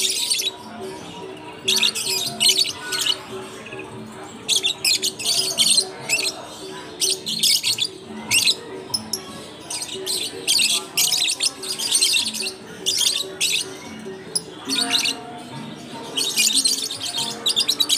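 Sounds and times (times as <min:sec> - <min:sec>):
lovebirds chattering: 0:00.0 - 0:17.9.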